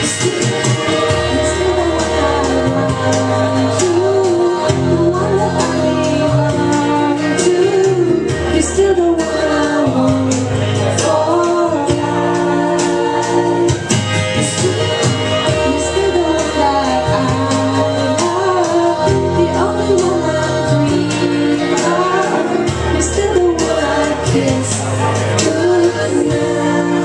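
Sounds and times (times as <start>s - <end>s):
held bass notes: 0.0s - 27.0s
woman singing into a microphone: 0.0s - 27.0s.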